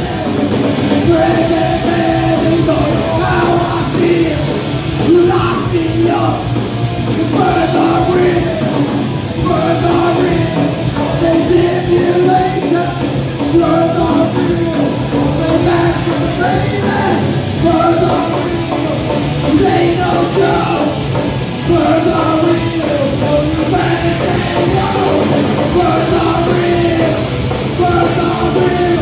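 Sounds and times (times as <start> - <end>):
punk rock band playing: 0.0 - 29.0.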